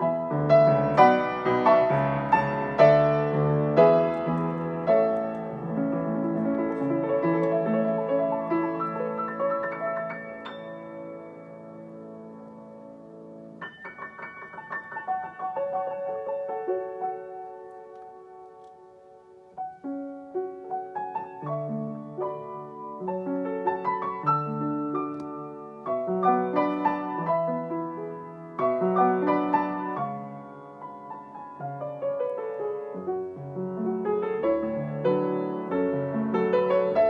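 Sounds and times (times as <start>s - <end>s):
solo piano broken chords: 0.0s - 37.0s.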